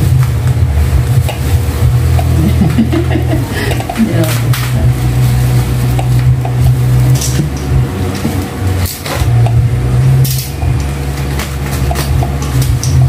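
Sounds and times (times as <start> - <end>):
bubble wrap rustling: 0.0 - 13.0
low rumble: 0.0 - 13.0.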